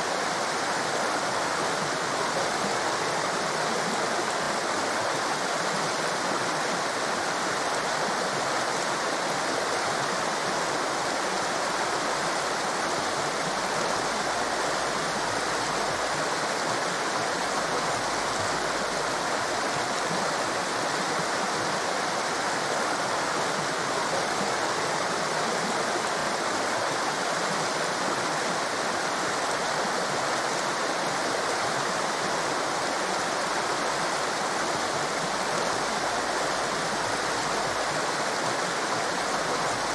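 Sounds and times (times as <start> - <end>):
rushing whitewater roar: 0.0 - 39.9.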